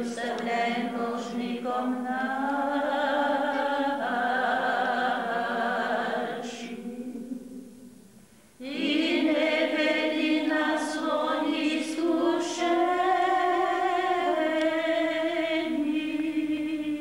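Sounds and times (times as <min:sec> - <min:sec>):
women singing unaccompanied: 0:00.0 - 0:07.9, 0:08.6 - 0:17.0.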